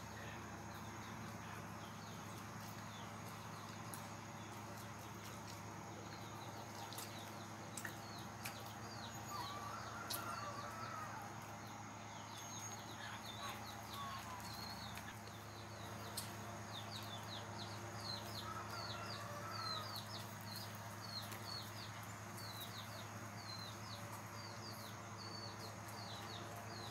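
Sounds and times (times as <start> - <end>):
small birds chirping: 0.0 - 26.9
steady low hum: 0.0 - 26.9.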